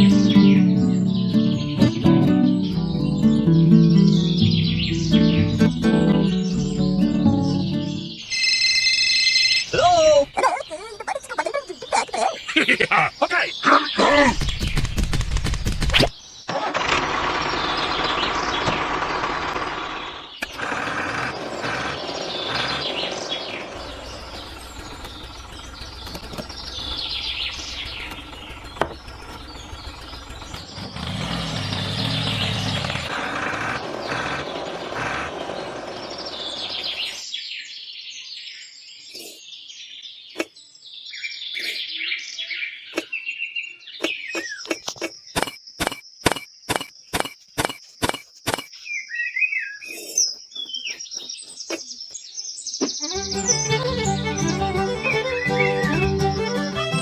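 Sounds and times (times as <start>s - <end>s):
small birds chirping: 0.0s - 8.4s, 9.6s - 16.7s, 17.4s - 57.0s.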